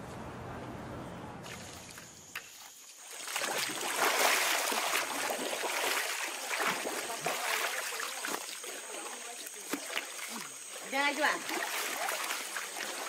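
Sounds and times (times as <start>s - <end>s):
river water splashing: 1.4s - 13.0s.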